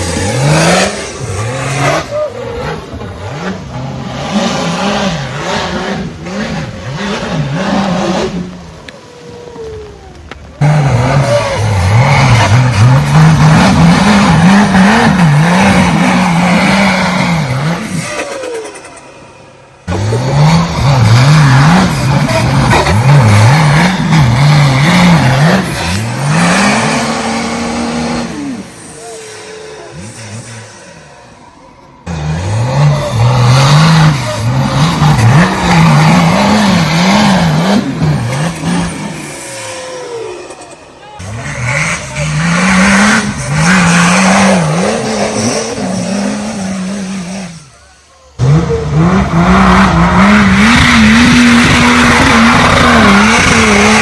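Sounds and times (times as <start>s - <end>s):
off-road engine revving hard: 0.0s - 54.0s.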